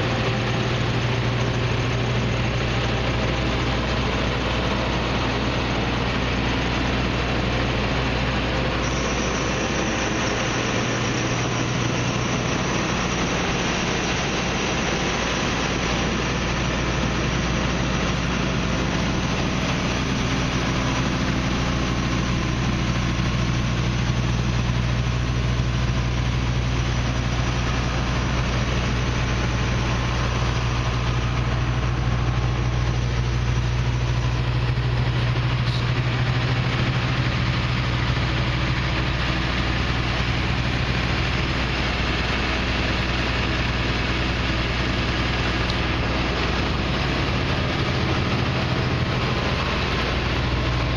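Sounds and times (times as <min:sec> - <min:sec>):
combine harvester engine running: 0:00.0 - 0:50.9.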